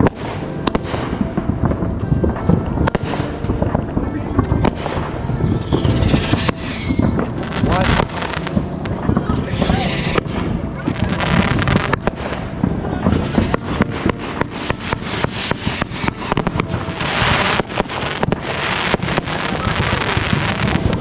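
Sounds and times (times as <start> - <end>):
firework hissing bursts: 0.0 - 21.0
fireworks crackling pops: 0.0 - 21.0
high firework whistle: 0.0 - 21.0.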